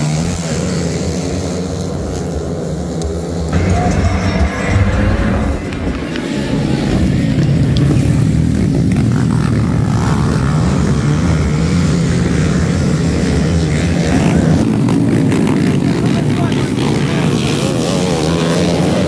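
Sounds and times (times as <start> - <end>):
motorcycle engines droning: 0.0 - 19.0.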